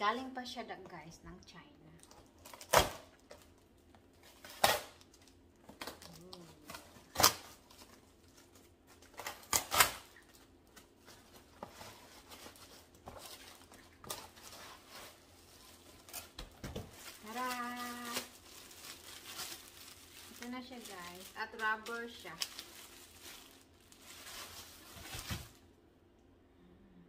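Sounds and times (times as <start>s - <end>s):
packaging rustling: 2.0s - 25.7s
packaging ripping: 2.1s - 3.5s, 4.2s - 25.6s.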